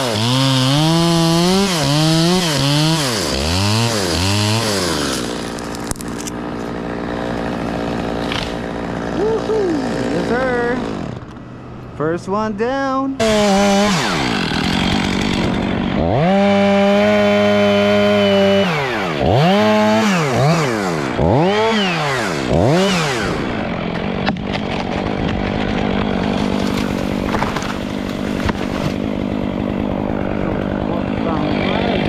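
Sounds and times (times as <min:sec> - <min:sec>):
chainsaw engine revving: 0:00.0 - 0:11.6, 0:13.2 - 0:32.0.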